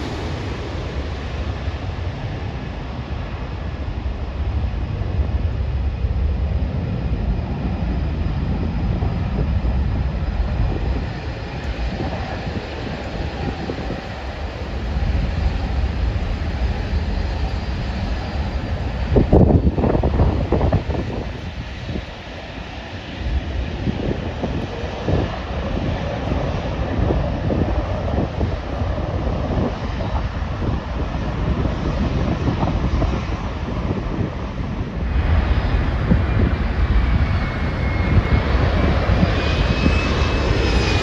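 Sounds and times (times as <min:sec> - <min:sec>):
distant jet engines rumbling: 0:00.0 - 0:41.0
wind buffeting microphone: 0:00.0 - 0:41.0.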